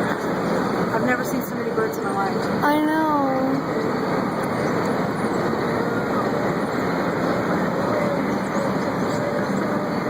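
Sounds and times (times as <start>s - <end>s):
traffic noise inside a car: 0.0s - 10.0s.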